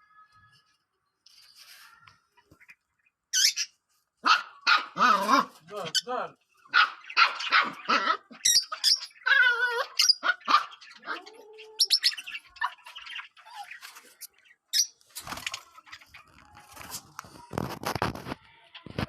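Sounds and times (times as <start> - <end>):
lovebirds chirping and squawking: 0.0 - 19.0.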